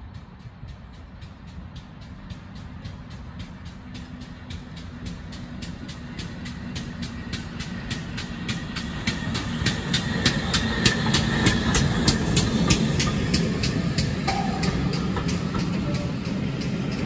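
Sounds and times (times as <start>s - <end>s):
steam locomotive chuffing: 0.0s - 17.0s
train wheels rumbling on rails: 0.0s - 17.0s.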